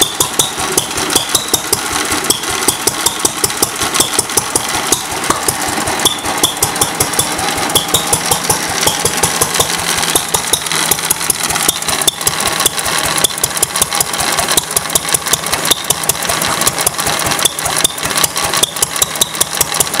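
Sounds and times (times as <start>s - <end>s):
single-cylinder engine running: 0.0s - 20.0s.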